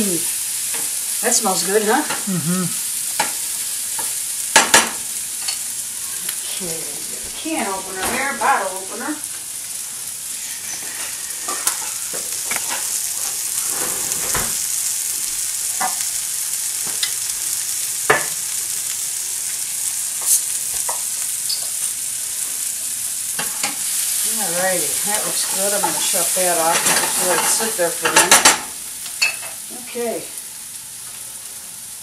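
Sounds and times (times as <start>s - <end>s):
onions sizzling in a frying pan: 0.0s - 32.0s.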